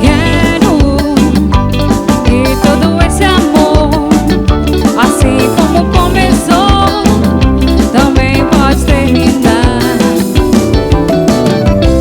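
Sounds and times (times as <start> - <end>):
band playing electronic dance music: 0.0 - 12.0.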